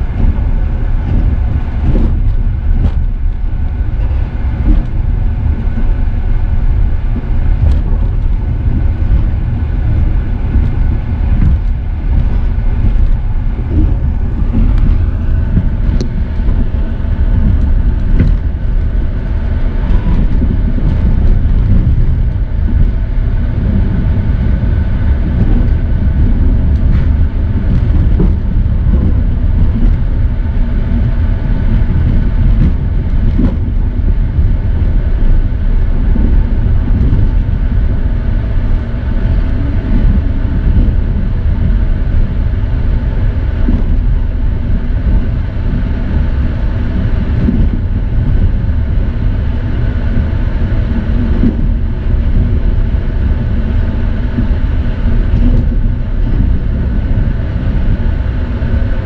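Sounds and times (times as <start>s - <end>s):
passenger train rumbling: 0.0s - 59.0s.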